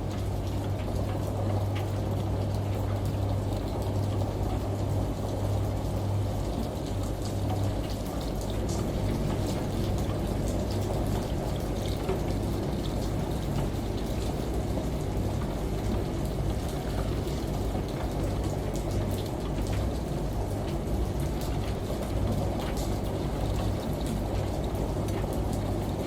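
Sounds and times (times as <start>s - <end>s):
washing machine hum: 0.0s - 26.0s.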